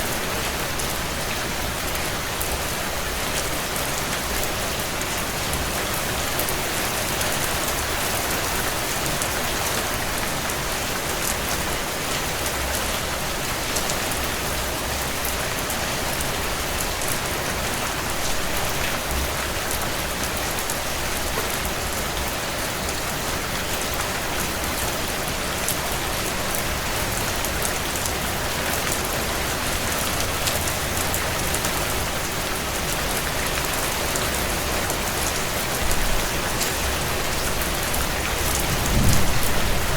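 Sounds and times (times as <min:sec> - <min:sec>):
heavy rain on window glass: 0:00.1 - 0:39.9.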